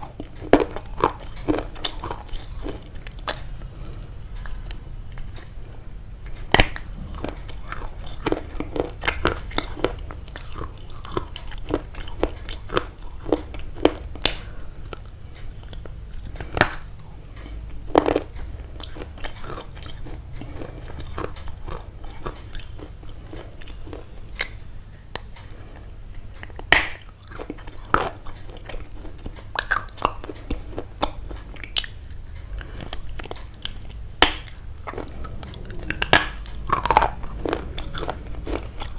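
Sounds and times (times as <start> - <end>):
crunchy biting and chewing: 0.0 - 38.9
steady low hum: 0.0 - 38.9.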